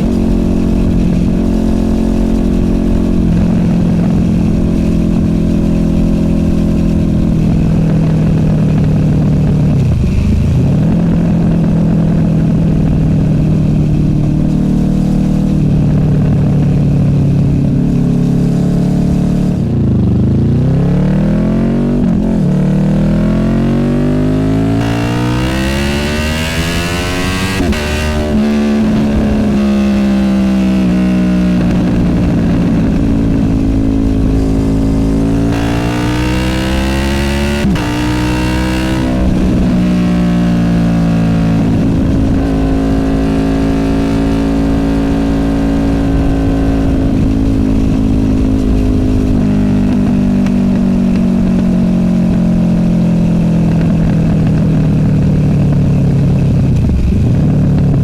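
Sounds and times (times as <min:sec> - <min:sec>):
motorcycle engine accelerating through gears: 0:00.0 - 0:58.0.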